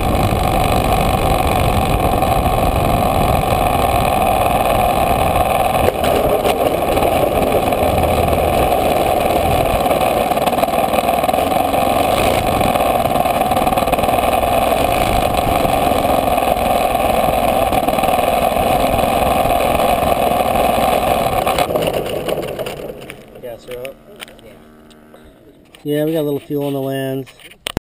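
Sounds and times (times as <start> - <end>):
model airplane engine drone: 0.0 - 26.9.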